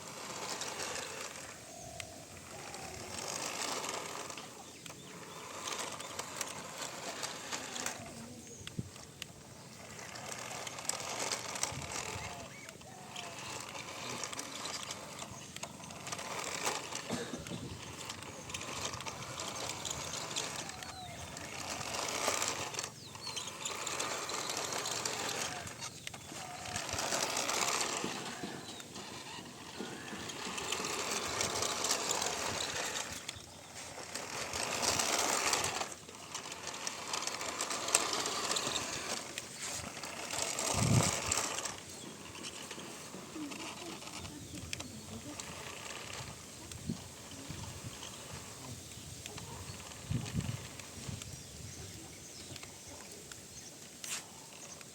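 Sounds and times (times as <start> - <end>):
toy car motor whirring: 0.0 - 54.9.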